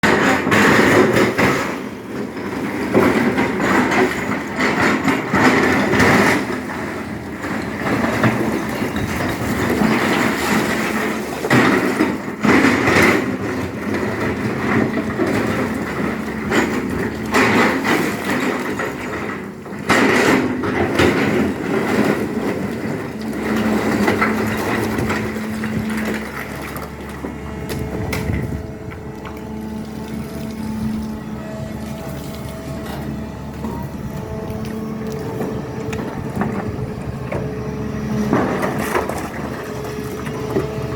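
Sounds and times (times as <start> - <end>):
bucket scraping earth and rock: 0.0 - 40.9
excavator engine under load: 0.0 - 40.9.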